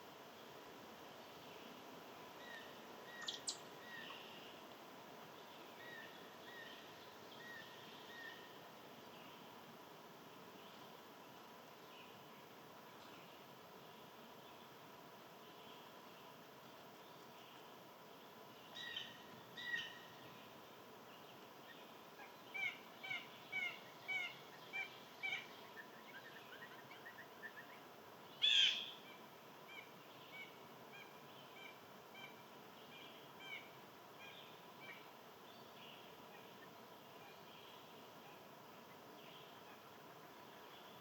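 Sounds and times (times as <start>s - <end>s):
faint outdoor hiss: 0.0s - 41.0s
songbirds chirping: 0.1s - 41.0s.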